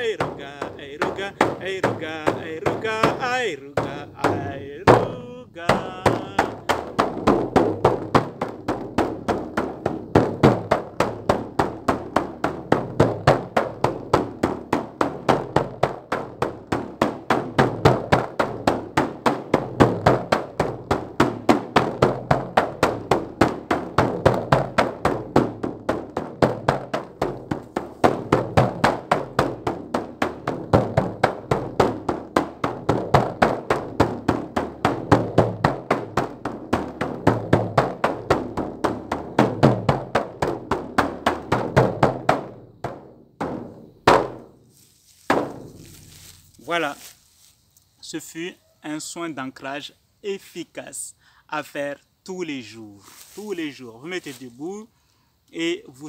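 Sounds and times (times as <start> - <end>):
frame drum beating: 0.0 - 44.6, 45.2 - 46.9.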